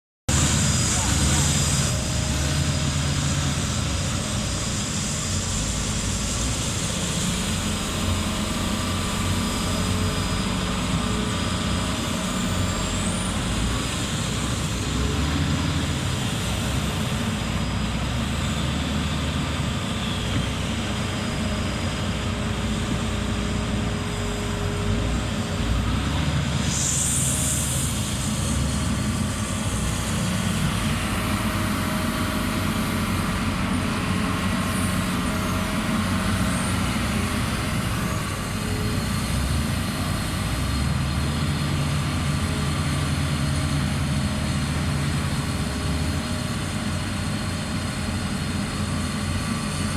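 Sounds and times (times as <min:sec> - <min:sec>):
diesel machinery engine drone: 0:00.3 - 0:49.9.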